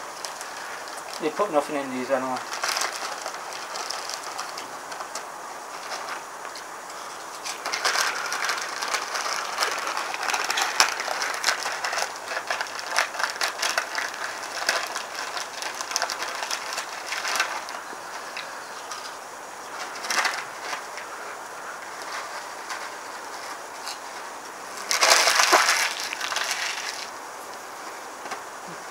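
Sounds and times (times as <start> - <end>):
crisps being crunched and chewed: 0.1 - 6.5, 7.3 - 27.1.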